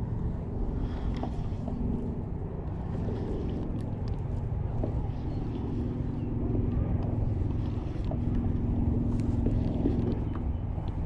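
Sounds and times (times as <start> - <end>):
motor hum: 0.0 - 11.0
wind rumble on microphone: 0.0 - 11.0.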